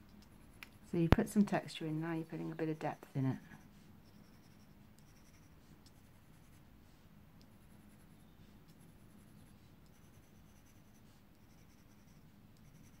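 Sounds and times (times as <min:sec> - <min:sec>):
low steady hum: 0:00.0 - 0:13.0
pencil scratching on paper: 0:02.3 - 0:13.0.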